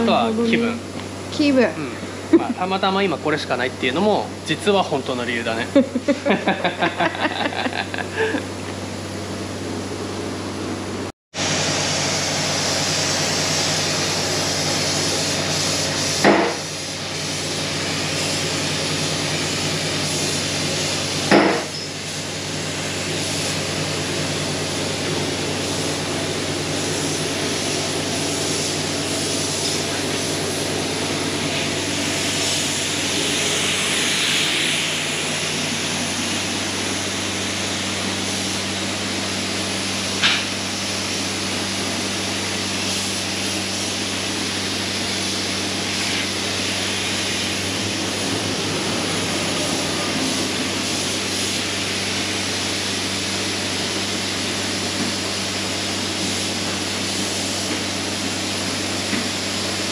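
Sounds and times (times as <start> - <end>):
machine humming and hissing: 0.0 - 59.9.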